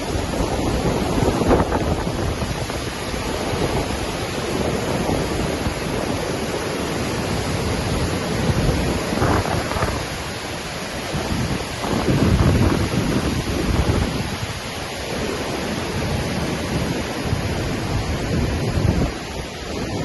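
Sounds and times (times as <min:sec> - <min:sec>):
waterfall rushing: 0:00.0 - 0:20.0
wind buffeting microphone: 0:00.0 - 0:20.0.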